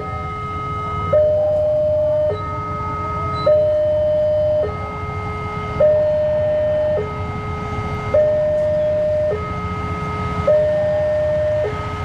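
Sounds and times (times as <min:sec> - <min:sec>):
diesel locomotive rumble: 0:00.0 - 0:12.0
electronic two-tone warning alarm: 0:00.0 - 0:12.0.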